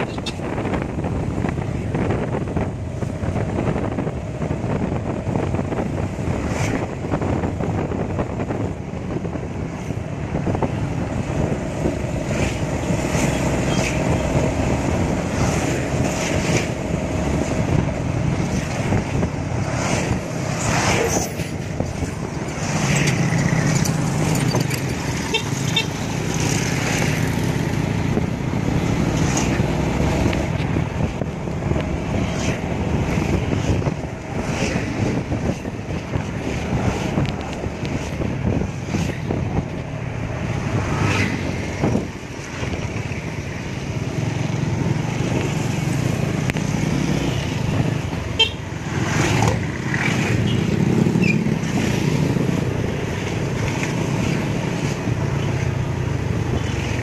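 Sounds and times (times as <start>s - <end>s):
vehicles passing: 0.0s - 57.0s
wind: 0.0s - 57.0s.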